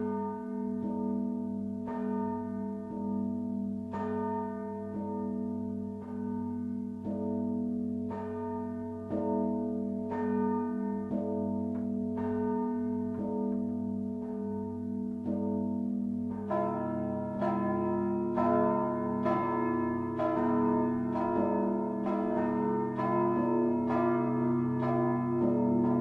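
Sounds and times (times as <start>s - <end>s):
church bell strokes: 0.0s - 26.0s
hum of larger bell: 0.0s - 26.0s.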